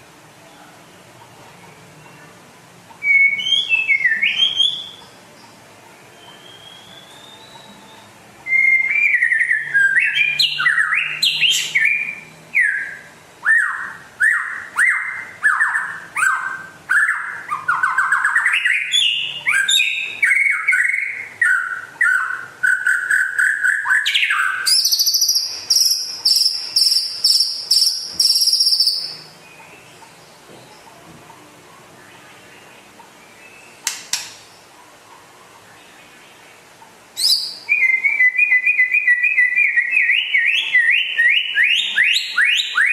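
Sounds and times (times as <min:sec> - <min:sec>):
bird singing: 0:00.4 - 0:42.9
bird trill: 0:01.5 - 0:31.0, 0:35.7 - 0:42.9.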